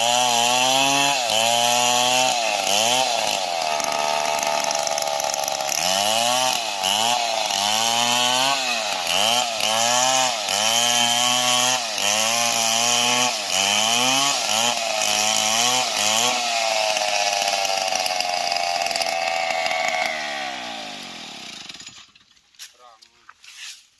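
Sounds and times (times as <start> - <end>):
chainsaw engine at high revs: 0.0 - 22.4.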